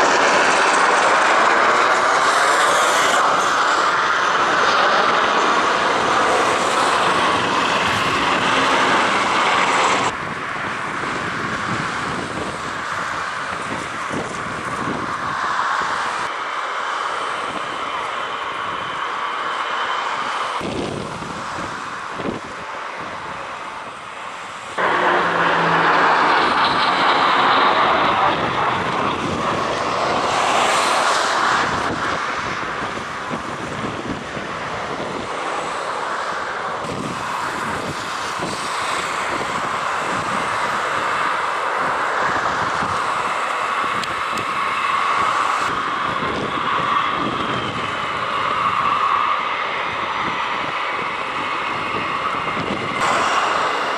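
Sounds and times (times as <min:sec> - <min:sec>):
wind buffeting microphone: 0:00.0 - 0:16.4, 0:17.2 - 0:53.9
military aircraft engines: 0:00.0 - 0:53.9.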